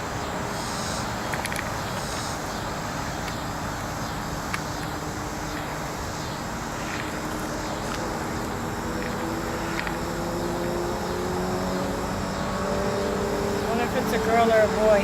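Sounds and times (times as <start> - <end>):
low rushing background noise: 0.0 - 15.0.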